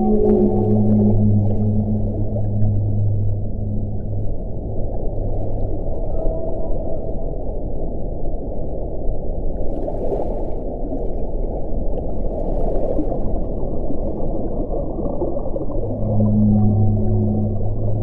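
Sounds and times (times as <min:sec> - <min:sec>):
wind blowing with low rumble: 0:00.0 - 0:18.0.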